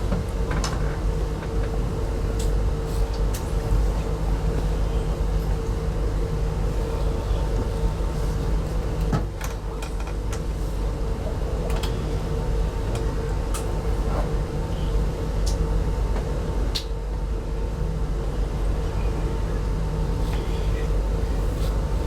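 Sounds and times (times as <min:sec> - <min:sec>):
constant hum: 0:00.0 - 0:22.0
train coach low rumble: 0:00.0 - 0:22.0.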